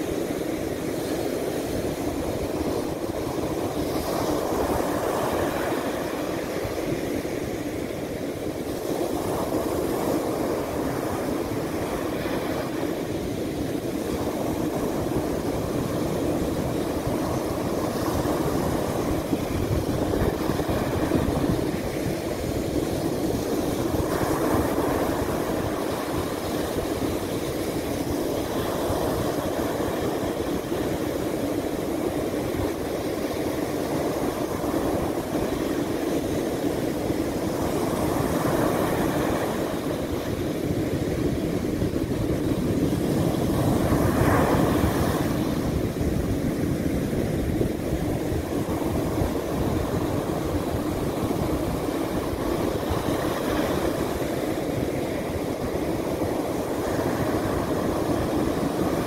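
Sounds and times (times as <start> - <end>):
sea surf breaking on beach: 0.0 - 59.0.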